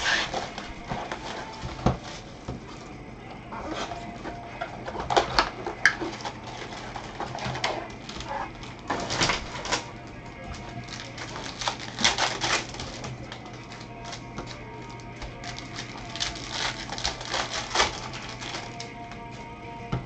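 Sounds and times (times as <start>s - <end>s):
foil packs crinkling: 0.0s - 3.0s, 3.6s - 19.2s.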